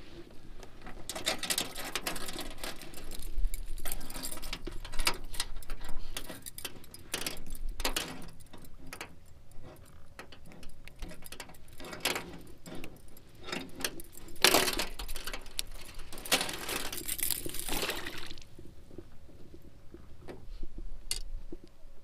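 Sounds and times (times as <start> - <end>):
fishing tackle clicking and rattling: 1.1 - 18.5, 21.1 - 21.3.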